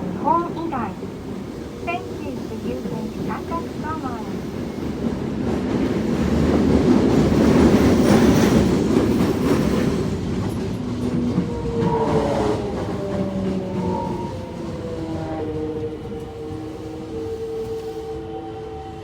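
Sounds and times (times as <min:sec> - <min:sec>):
train running rumble and clatter: 0:00.0 - 0:18.3.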